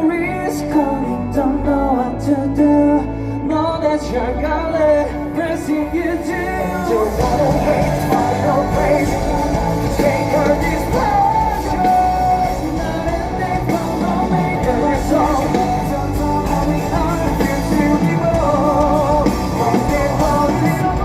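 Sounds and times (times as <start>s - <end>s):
person singing: 0.0s - 21.0s
rock band playing live: 0.0s - 21.0s.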